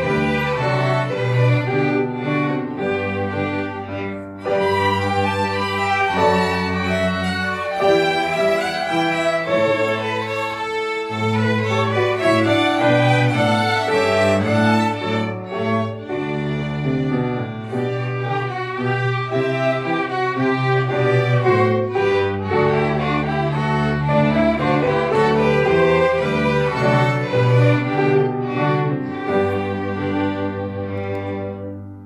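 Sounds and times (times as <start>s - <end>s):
violin ensemble playing: 0.0s - 32.0s.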